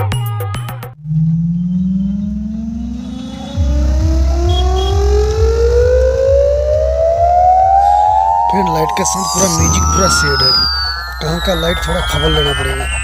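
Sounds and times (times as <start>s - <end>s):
rising siren-like tone: 1.0s - 13.0s
heavy deep bass: 1.7s - 13.0s.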